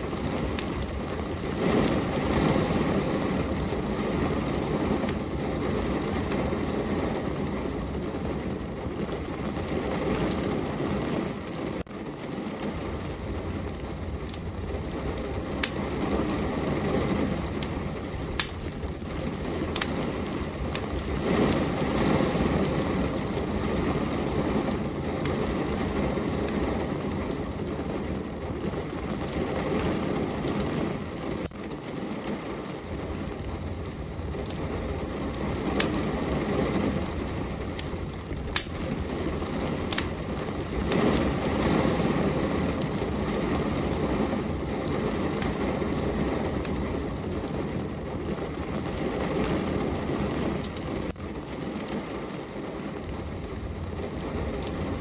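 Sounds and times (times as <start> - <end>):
steady rain: 0.0 - 55.0
wood fire crackling and popping: 0.0 - 55.0.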